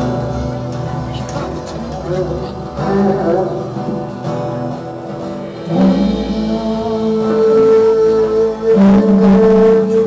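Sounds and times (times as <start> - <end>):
acoustic guitar: 0.0 - 10.0
live band music: 0.0 - 10.0.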